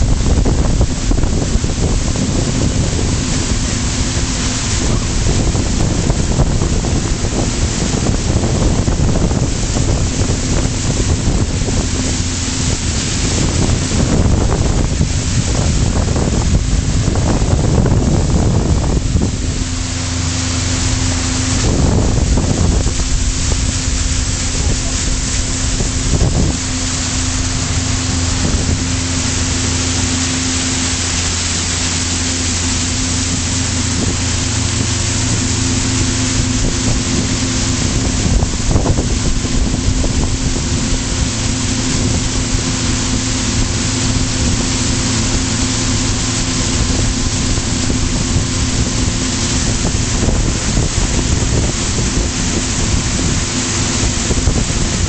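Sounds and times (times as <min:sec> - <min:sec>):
boat engine hum: 0:00.0 - 0:55.0
water spray off hull: 0:00.0 - 0:55.0
wind on microphone: 0:00.0 - 0:55.0.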